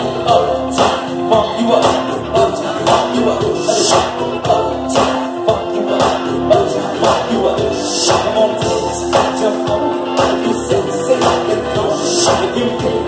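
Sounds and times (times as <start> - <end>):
live rock band playing: 0.0 - 13.0
person singing: 0.0 - 13.0.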